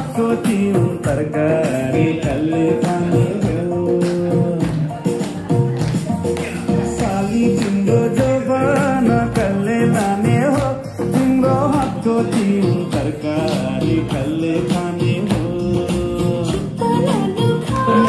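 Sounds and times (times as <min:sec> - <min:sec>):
song with singing and beat: 0:00.0 - 0:18.0.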